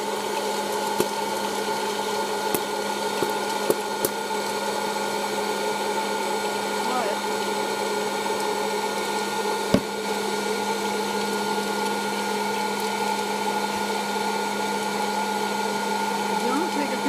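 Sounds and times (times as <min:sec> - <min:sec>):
popcorn maker fan hum: 0:00.0 - 0:17.0.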